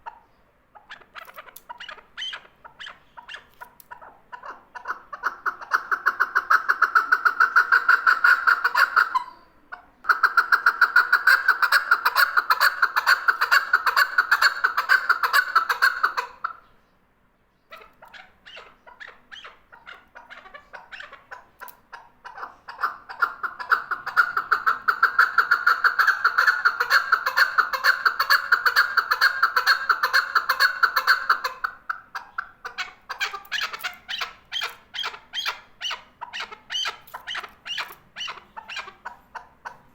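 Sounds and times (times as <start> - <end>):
partridge calling: 0.0 - 16.8, 17.6 - 39.9.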